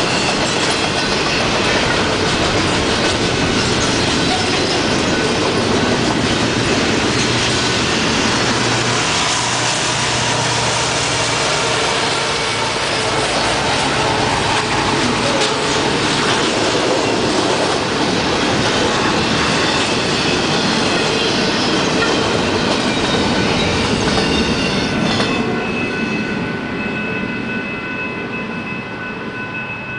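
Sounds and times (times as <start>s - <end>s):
high ringing tones from rails: 0.0s - 29.9s
steel wheels rumbling on rails: 0.0s - 29.9s.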